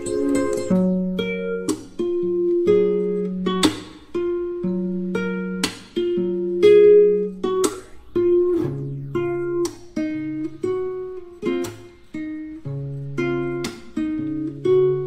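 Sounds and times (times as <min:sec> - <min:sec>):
gentle plucked instrumental music: 0:00.0 - 0:15.0.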